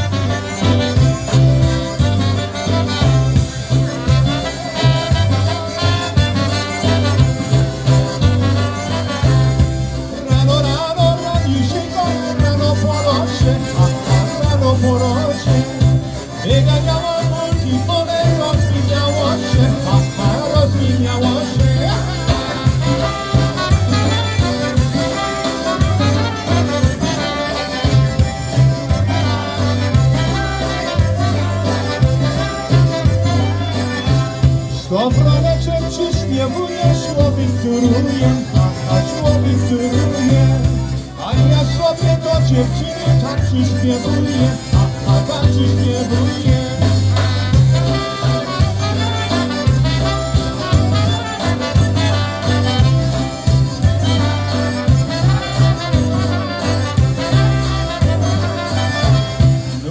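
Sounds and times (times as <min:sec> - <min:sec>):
polka band playing: 0:00.0 - 0:59.9.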